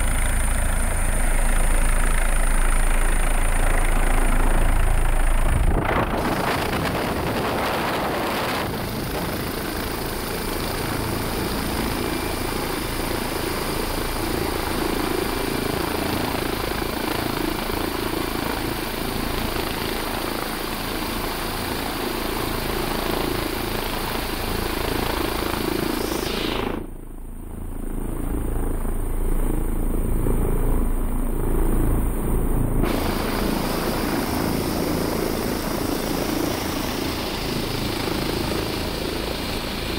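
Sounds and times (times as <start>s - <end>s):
helicopter rotor and engines: 0.0s - 39.9s.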